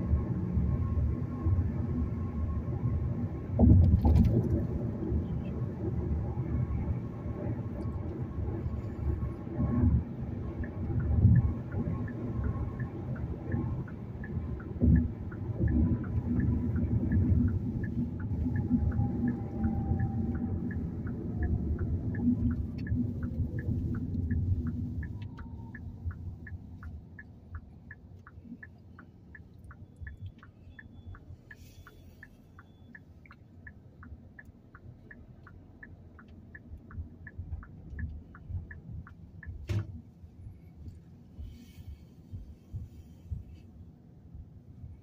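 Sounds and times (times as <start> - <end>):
engine and road rumble: 0.0 - 45.0
turn signal ticking: 0.0 - 45.0.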